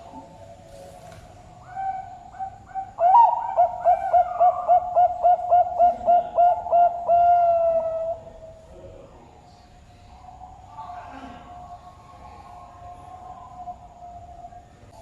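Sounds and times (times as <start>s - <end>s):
dove cooing: 0.0s - 9.4s, 10.0s - 15.0s.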